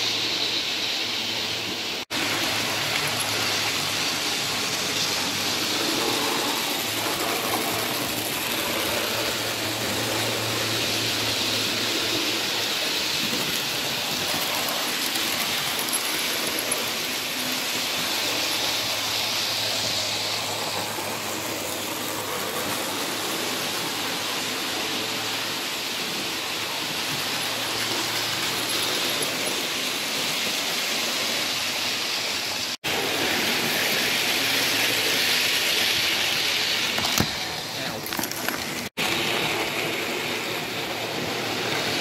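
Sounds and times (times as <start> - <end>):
model train motors whirring: 0.0 - 42.0.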